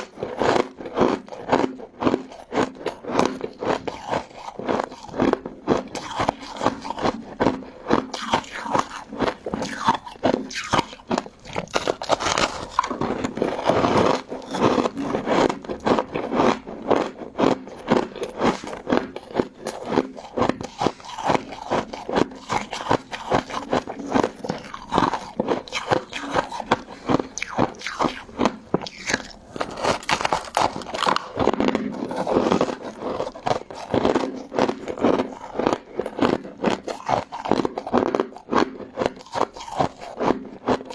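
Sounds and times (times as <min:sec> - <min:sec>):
crunching and chewing ice: 0:00.0 - 0:40.9.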